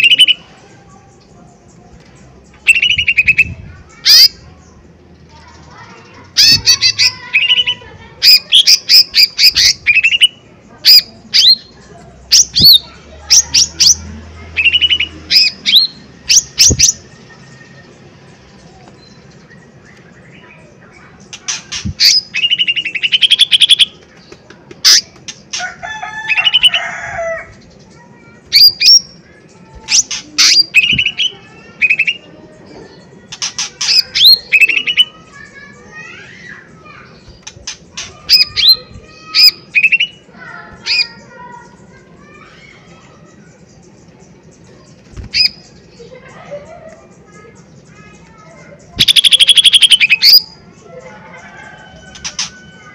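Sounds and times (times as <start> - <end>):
bird chips and trills: 0.0 - 11.7, 18.8 - 52.9.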